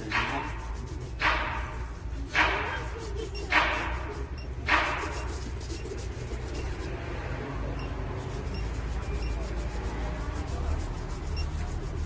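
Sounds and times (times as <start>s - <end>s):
polish pad rubbing leather shoe: 0.0s - 7.0s, 8.0s - 12.0s.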